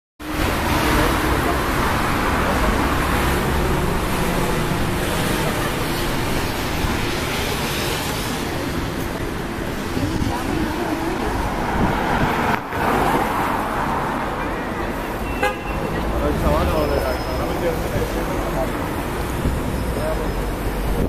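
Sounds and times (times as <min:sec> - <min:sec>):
cars passing on wet road: 0:00.2 - 0:21.0
engine and road noise: 0:00.2 - 0:21.0.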